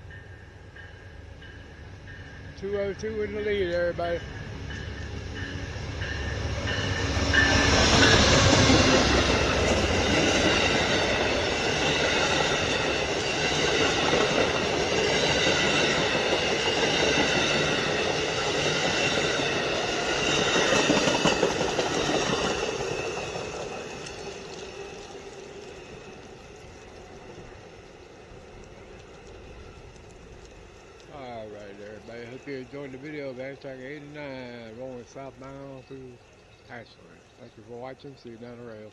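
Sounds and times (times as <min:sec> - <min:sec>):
diesel locomotive passing: 0:00.0 - 0:38.9
train wheels rumbling on rail: 0:00.0 - 0:38.9.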